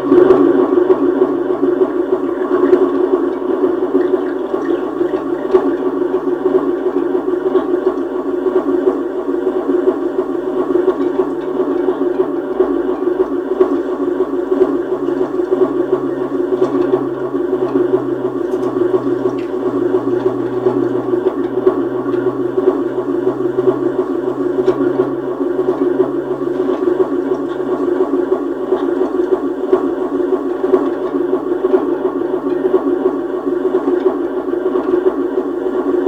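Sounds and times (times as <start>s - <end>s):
fluttering synthesizer drone: 0.0s - 36.0s
low hum: 0.0s - 36.0s.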